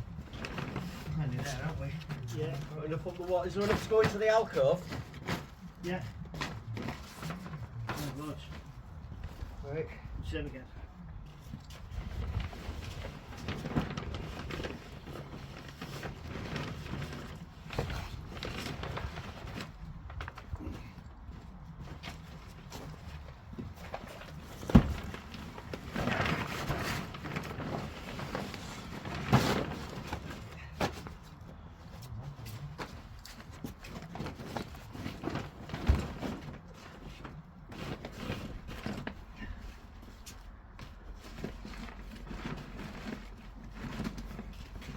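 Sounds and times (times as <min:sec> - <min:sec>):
knocks and scuffs of building work: 0:00.1 - 0:10.2, 0:10.8 - 0:44.9.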